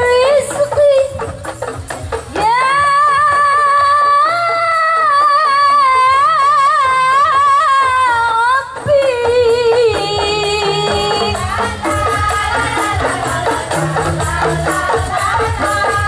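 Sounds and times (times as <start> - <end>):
woman singing through microphone: 0.0 - 1.4, 2.3 - 16.0
quiet percussion: 0.0 - 16.0.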